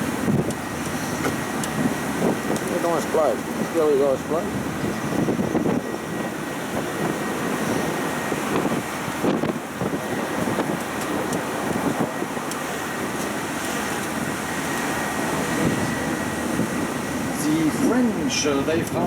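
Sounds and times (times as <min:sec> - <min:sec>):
road train engine and road noise: 0:00.0 - 0:19.0.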